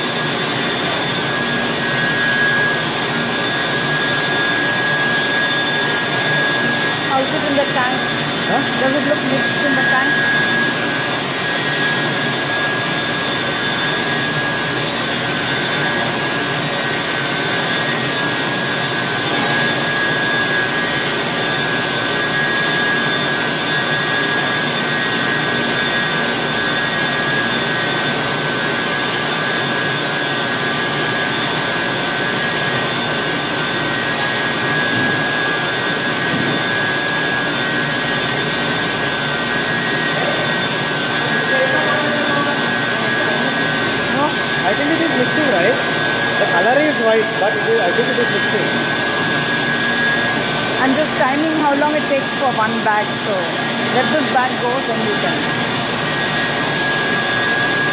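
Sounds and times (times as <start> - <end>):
mixer whirring with steady whine: 0.0 - 57.9.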